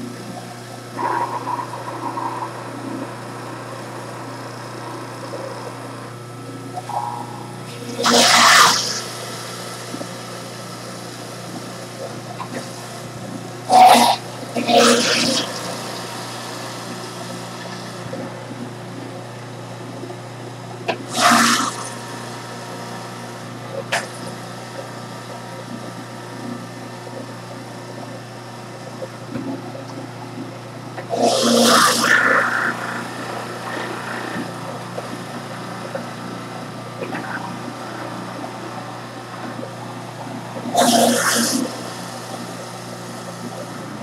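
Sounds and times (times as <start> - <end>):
electric juicer motor hum: 0.0 - 44.0.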